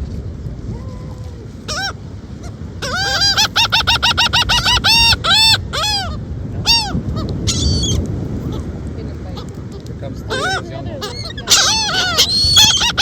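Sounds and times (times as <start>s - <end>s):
gull calling: 1.7s - 8.7s, 9.4s - 13.0s.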